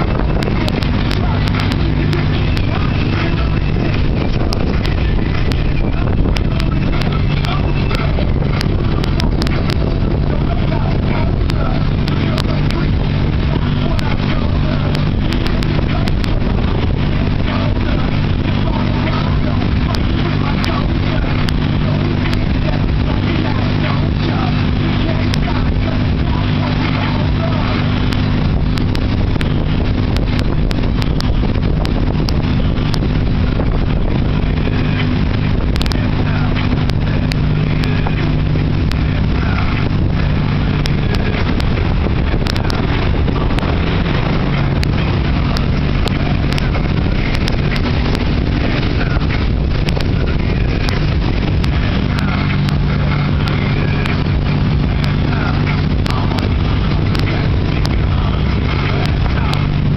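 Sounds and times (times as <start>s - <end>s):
churning wake rushing: 0.0s - 59.9s
motorboat engine drone: 0.0s - 59.9s.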